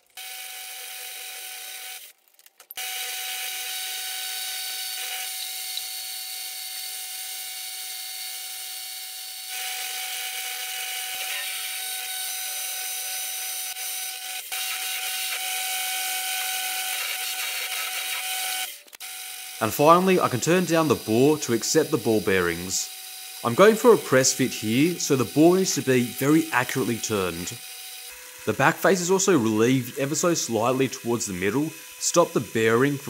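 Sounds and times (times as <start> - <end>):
drill cutting hiss: 2.8 - 33.0
metal lathe hum: 2.8 - 33.0.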